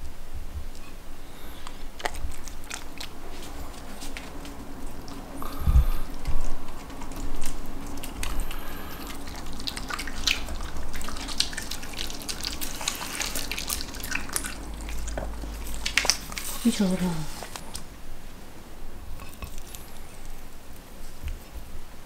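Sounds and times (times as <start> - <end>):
dog licking and chewing food: 0.5 - 22.0.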